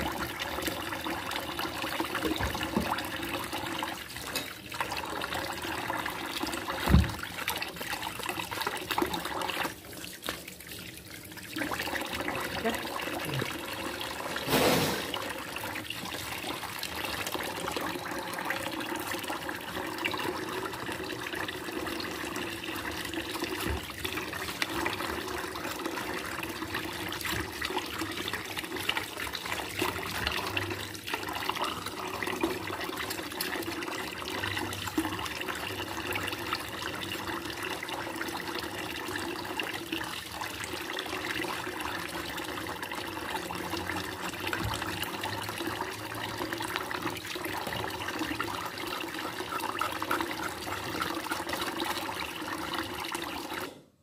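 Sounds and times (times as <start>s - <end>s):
tap water running into basin: 0.0s - 54.0s.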